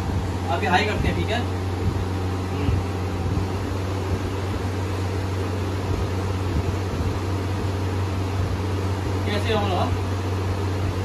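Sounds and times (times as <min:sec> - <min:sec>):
air cooler fan running: 0:00.0 - 0:11.0.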